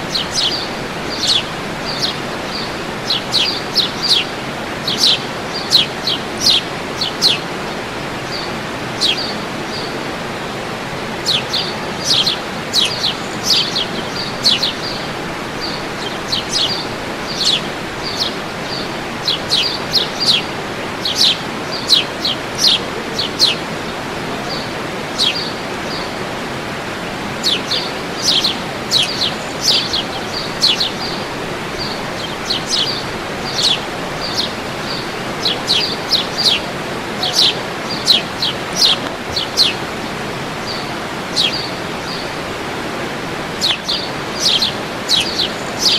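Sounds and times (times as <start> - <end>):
birds chirping: 0.0 - 45.9
steady rushing noise: 0.0 - 45.9.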